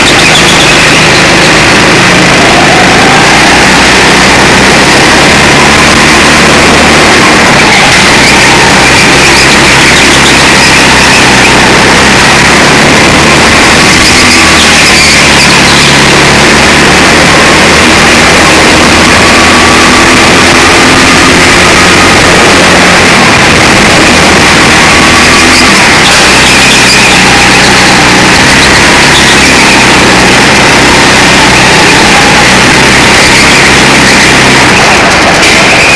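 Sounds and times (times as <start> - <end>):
go-kart engine running hard: 0.0 - 35.9.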